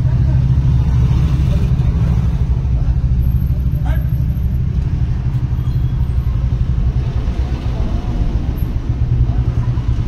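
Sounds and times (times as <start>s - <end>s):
low rumble of outdoor noise: 0.0s - 10.0s.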